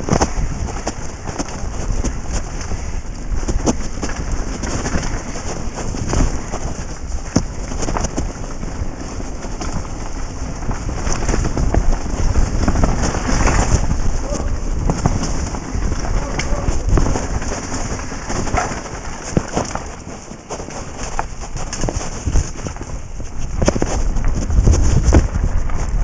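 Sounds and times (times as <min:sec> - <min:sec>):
bike rattling and knocking: 0:00.0 - 0:26.0
wind rushing over microphone: 0:00.0 - 0:26.0.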